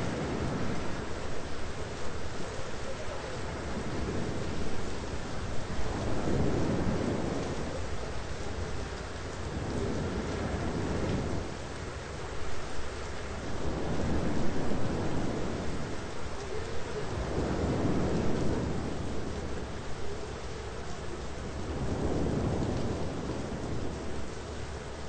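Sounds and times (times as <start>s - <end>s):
rolling thunder: 0.0s - 11.8s, 13.4s - 25.0s
steady rain: 0.0s - 25.0s.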